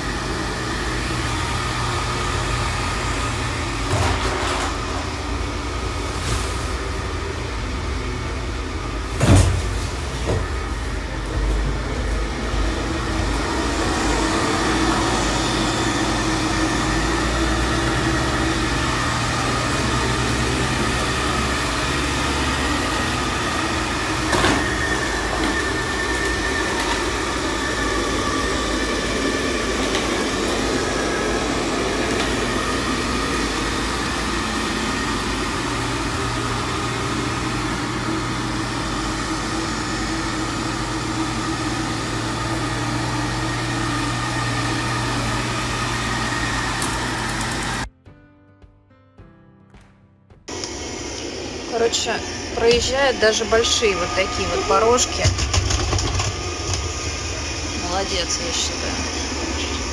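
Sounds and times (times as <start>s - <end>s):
robot vacuum motor humming: 0.0s - 6.1s, 10.4s - 47.9s, 50.5s - 59.9s.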